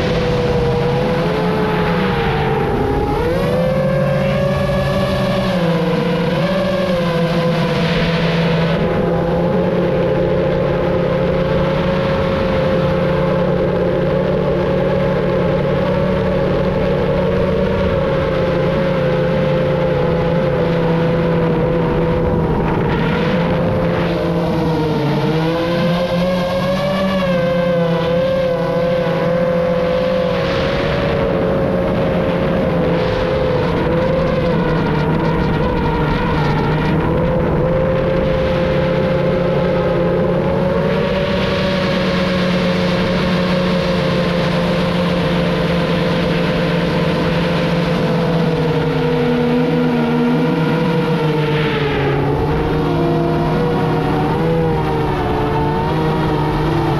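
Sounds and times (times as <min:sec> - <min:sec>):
drone motors whining: 0:00.0 - 0:56.9
wind rush: 0:00.0 - 0:56.9.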